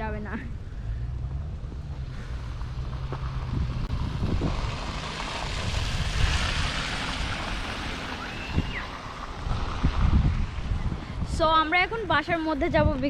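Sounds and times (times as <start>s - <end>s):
car passing on snowy road: 0.0s - 12.6s
wind rumble on microphone: 0.0s - 13.0s.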